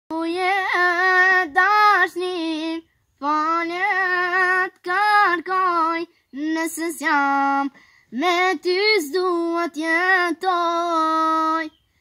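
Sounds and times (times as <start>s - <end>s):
child singing: 0.1s - 11.8s.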